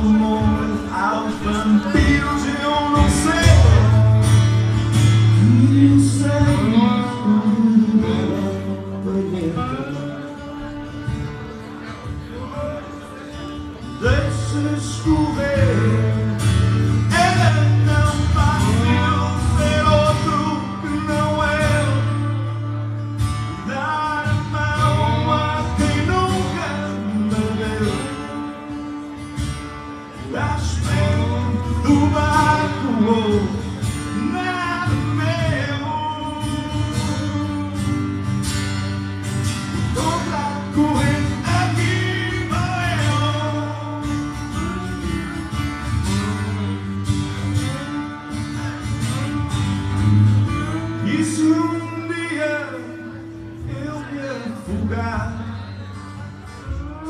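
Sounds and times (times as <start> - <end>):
acoustic guitar: 0.0 - 57.0
lap steel guitar: 0.0 - 57.0
man singing: 0.0 - 57.0.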